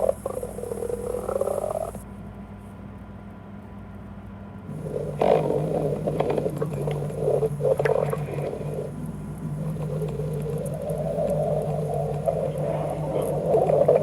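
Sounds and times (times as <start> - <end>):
stomach growling: 0.0 - 2.0, 4.7 - 14.0.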